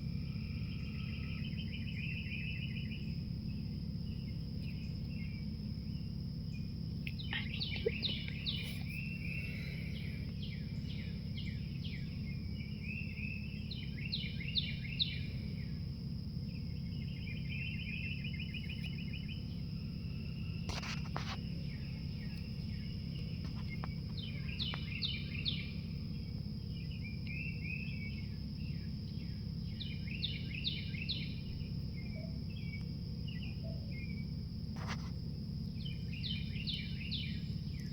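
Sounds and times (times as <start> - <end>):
high insect trill: 0.0 - 37.9
songbirds chirping: 0.0 - 37.9.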